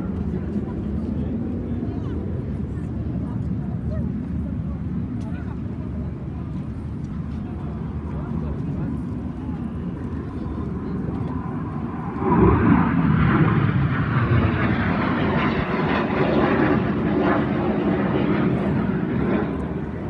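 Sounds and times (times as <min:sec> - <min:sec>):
aircraft engine flying past: 0:00.0 - 0:20.0.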